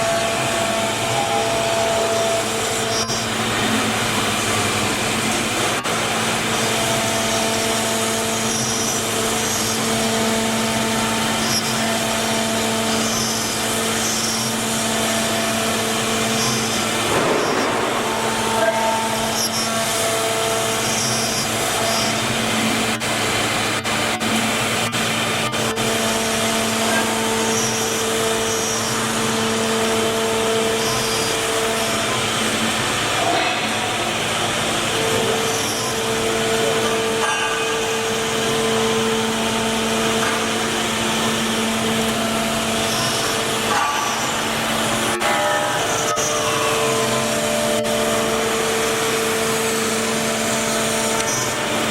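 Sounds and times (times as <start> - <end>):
cnc router whine: 0.0 - 51.9
continuous rushing noise: 0.0 - 51.9.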